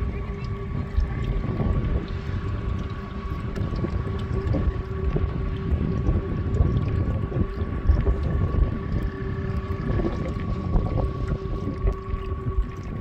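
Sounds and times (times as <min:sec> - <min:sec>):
electric outboard motor whine: 0:00.0 - 0:13.0
wind buffeting microphone: 0:00.0 - 0:13.0.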